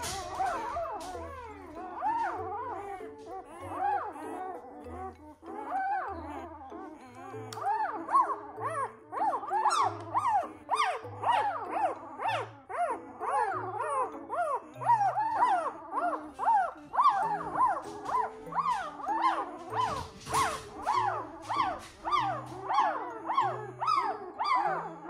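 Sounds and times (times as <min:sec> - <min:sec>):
puppy crying squeals: 0:00.0 - 0:25.0.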